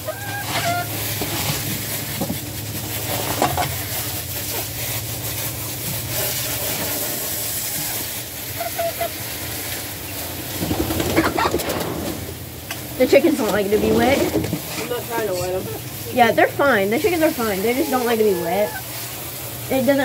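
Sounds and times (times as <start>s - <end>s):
garden hose spraying water: 0.0s - 20.0s.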